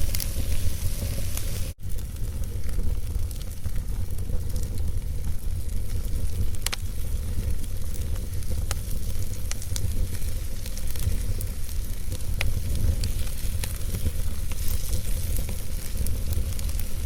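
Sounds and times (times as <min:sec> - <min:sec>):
logs crackling in fireplace: 0:00.0 - 0:17.0
low rumble of fire: 0:00.0 - 0:17.0.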